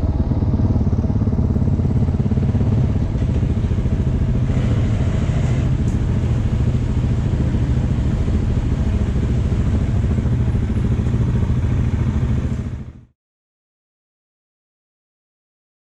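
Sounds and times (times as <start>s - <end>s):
dirt bike engine running: 0.0s - 13.1s.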